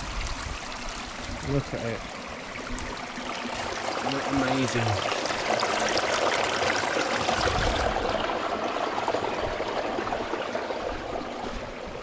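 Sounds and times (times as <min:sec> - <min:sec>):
water rushing through stones: 0:00.0 - 0:12.0.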